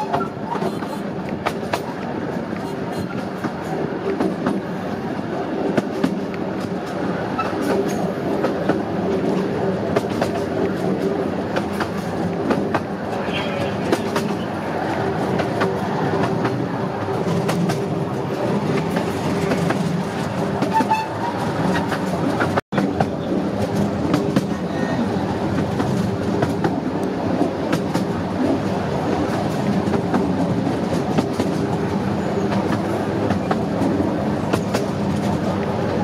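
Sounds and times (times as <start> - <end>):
train wheels clicking over rail joints: 0.0 - 36.0.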